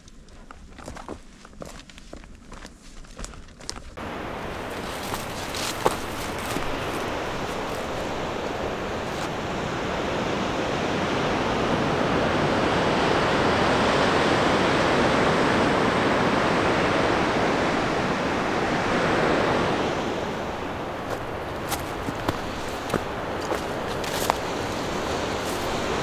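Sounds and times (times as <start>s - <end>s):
ocean waves breaking: 4.0s - 26.0s.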